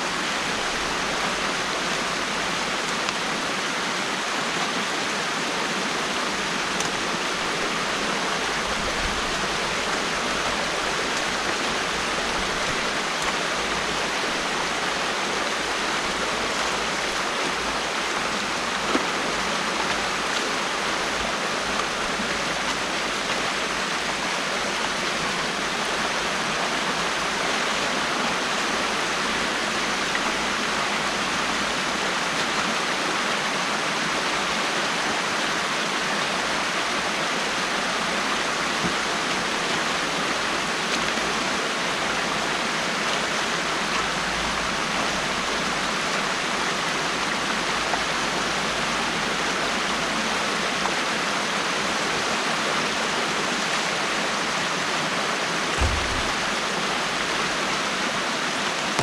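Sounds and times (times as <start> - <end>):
water rushing through dam opening: 0.0 - 59.0.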